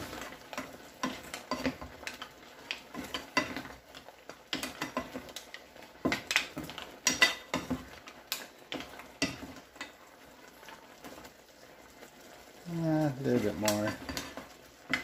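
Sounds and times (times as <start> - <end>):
shells clacking in a frying pan: 0.0 - 15.0.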